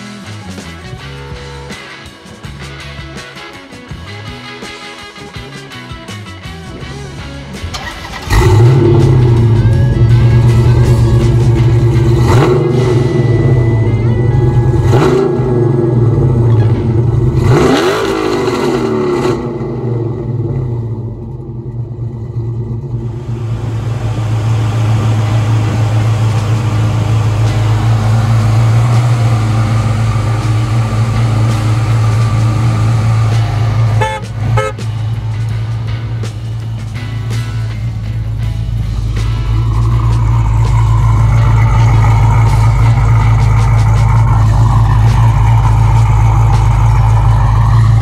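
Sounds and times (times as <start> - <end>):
engine revving: 0.0 - 48.0
car engine idling: 6.1 - 48.0.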